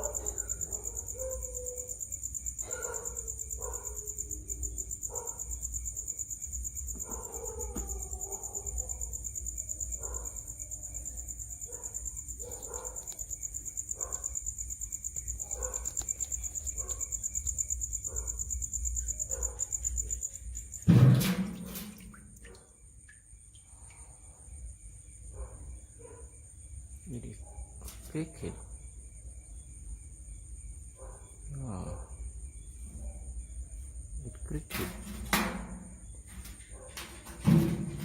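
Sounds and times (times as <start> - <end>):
cricket trilling: 0.0 - 38.0.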